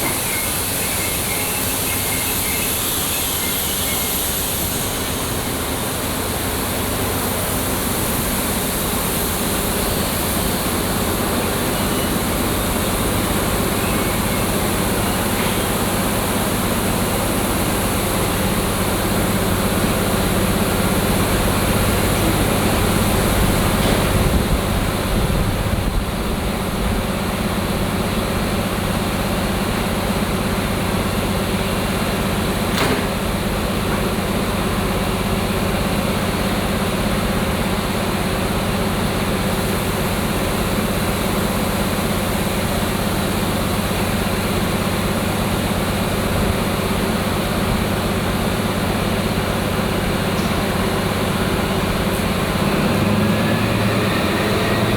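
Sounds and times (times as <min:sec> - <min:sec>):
diesel train engine humming: 0:00.0 - 0:54.9.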